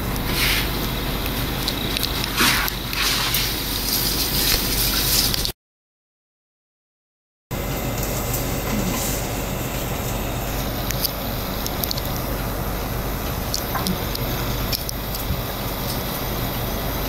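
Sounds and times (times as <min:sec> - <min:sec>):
room noise hum and hiss: 0:00.0 - 0:05.5, 0:07.5 - 0:17.0.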